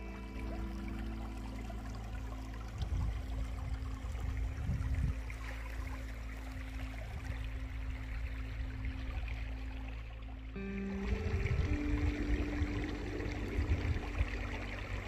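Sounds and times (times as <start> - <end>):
soft music of held notes: 0.0 - 15.0.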